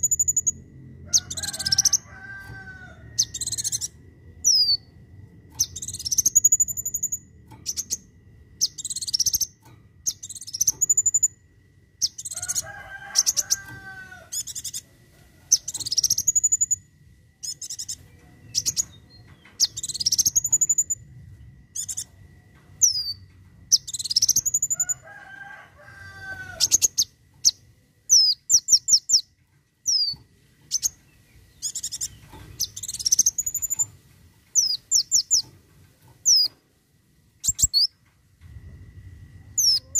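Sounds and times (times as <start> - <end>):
rattling bird trills: 0.0 - 21.1, 21.7 - 36.6, 37.4 - 38.1, 39.5 - 39.9.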